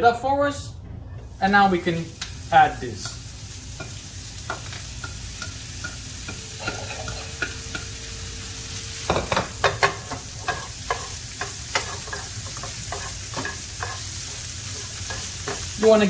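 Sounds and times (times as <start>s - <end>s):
meat sizzling in a frying pan: 1.3s - 16.0s.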